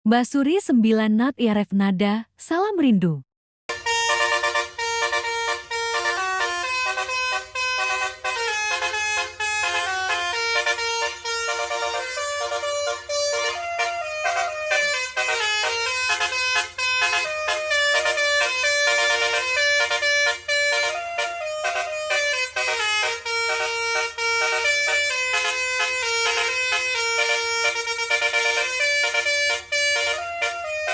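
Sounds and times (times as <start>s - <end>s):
horn playing fast melody: 3.7s - 30.9s.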